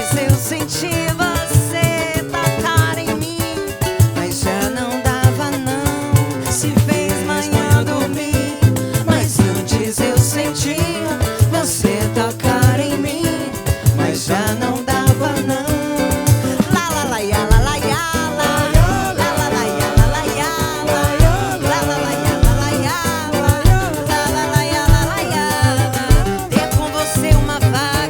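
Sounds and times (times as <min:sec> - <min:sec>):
drum kit beat: 0:00.0 - 0:28.0
person singing: 0:00.0 - 0:28.0
samba band playing: 0:00.0 - 0:28.0.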